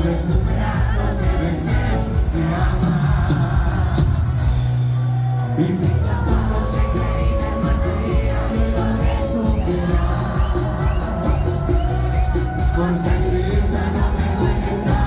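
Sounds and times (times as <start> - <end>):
crowd singing and shouting: 0.0 - 15.0
live band playing loudly: 0.0 - 15.0.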